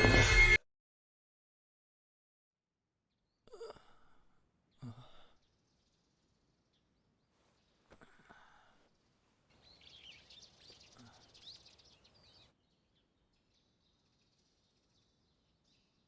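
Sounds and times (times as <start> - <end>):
faint birds chirping: 3.0 - 16.0.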